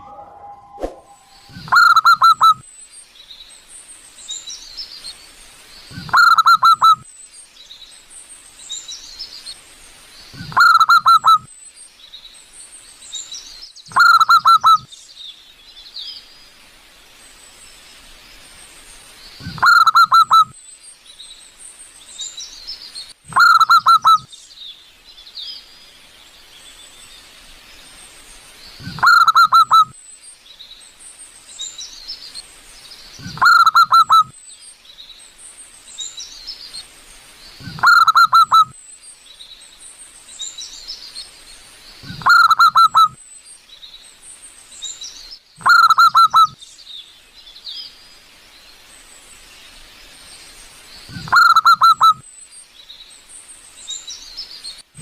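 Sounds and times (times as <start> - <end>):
small birds chirping: 0.9 - 55.0.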